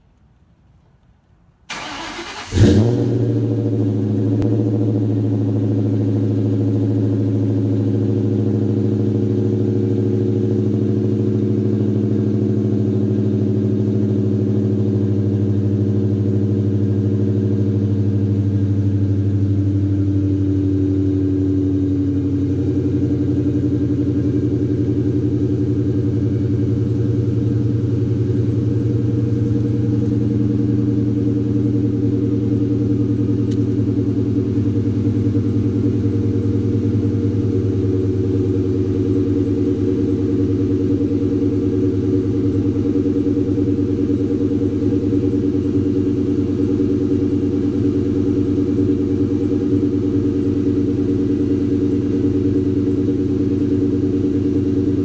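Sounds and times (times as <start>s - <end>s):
car engine starting and idling: 0.6s - 55.0s.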